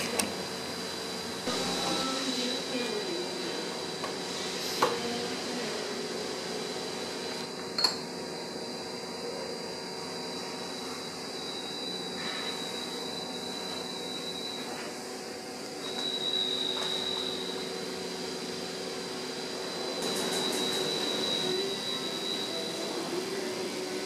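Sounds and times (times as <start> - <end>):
room hum with high whine: 0.0 - 24.0.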